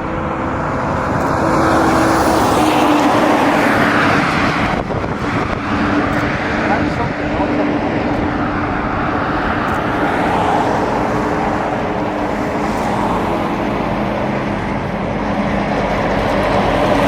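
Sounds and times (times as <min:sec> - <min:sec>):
aircraft engines flying past: 0:00.0 - 0:17.0.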